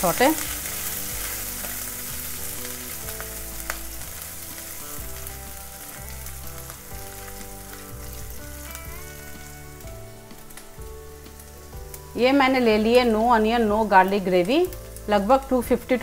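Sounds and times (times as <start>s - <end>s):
soft background music: 0.0s - 16.0s
spices sizzling in hot oil: 0.0s - 16.0s.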